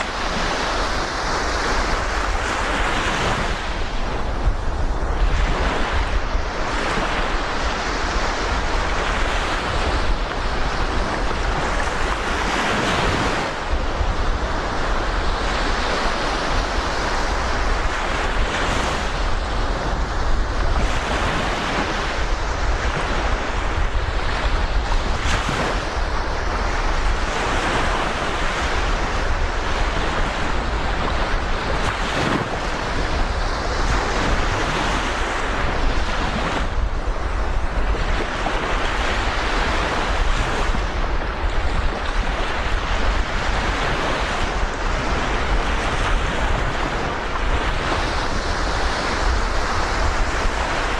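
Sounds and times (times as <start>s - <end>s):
surf washing onto beach: 0.0s - 50.9s
wind buffeting microphone: 0.0s - 50.9s.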